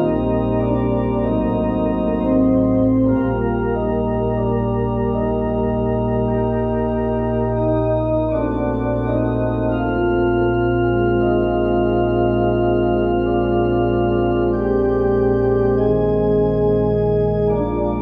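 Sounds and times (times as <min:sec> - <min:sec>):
organ playing slow chords: 0:00.0 - 0:18.0.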